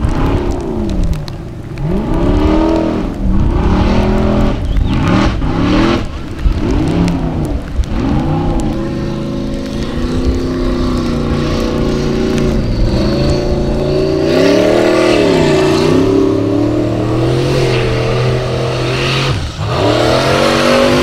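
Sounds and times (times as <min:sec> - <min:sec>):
buggy engine revving hard: 0:01.8 - 0:21.0.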